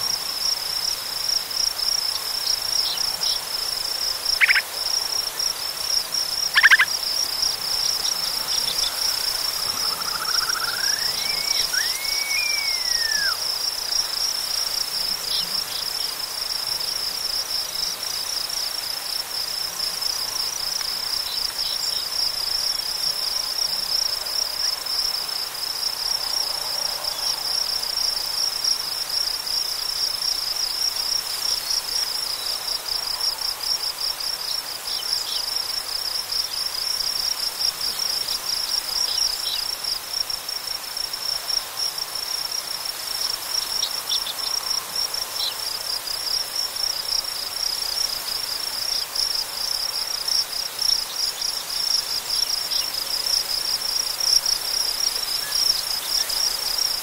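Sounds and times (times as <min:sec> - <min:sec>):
crickets trilling: 0:00.0 - 0:57.0
wind through grass: 0:00.0 - 0:57.0.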